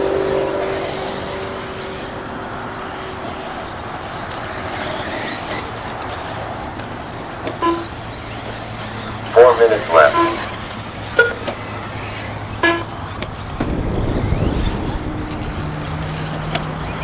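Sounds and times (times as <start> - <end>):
motor and tyre noise: 0.0 - 17.0.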